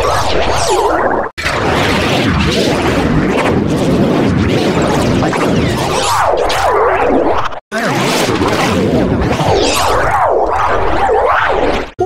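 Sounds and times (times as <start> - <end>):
warped cartoon audio warbling: 0.0 - 12.0.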